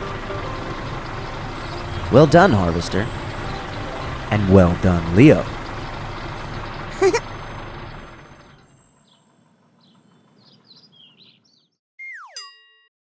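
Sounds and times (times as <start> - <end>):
faint birds chirping: 0.0 - 11.8
cartoon vehicle engine hum: 0.0 - 12.3.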